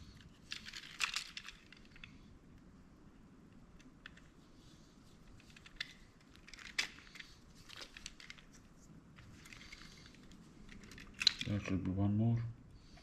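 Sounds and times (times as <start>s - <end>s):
small parts being handled: 0.0s - 2.6s, 3.5s - 11.8s.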